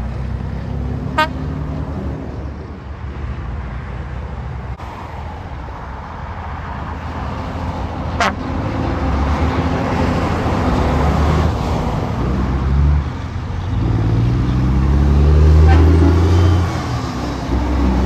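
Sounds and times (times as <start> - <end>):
highway traffic passing: 0.0 - 18.0
truck diesel engines: 0.0 - 18.0.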